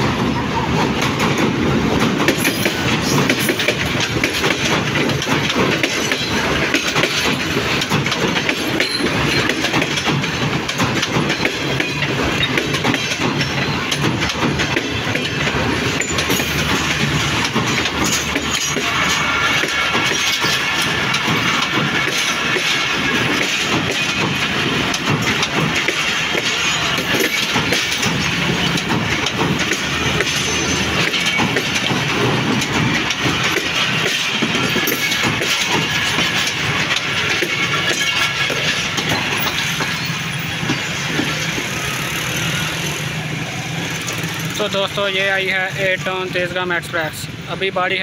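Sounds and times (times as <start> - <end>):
train wheels rumbling on rails: 0.0 - 48.0
wheels knocking: 0.1 - 43.0.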